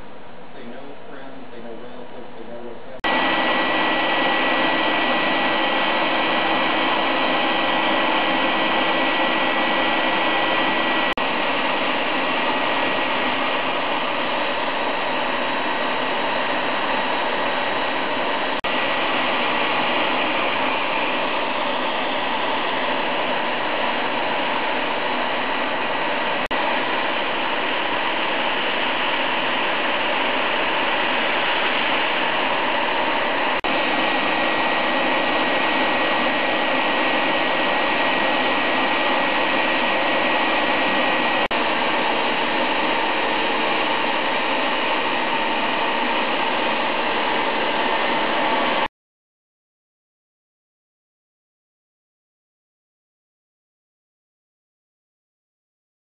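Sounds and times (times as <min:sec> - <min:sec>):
cnc mill spindle motor whining: 0:00.1 - 0:48.9.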